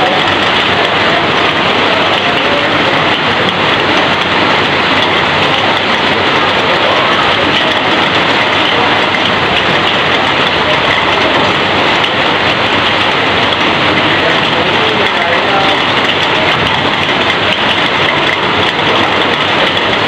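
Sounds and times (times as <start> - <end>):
heavy rain on metal roof: 0.0 - 20.0
water streaming off roof: 0.0 - 20.0.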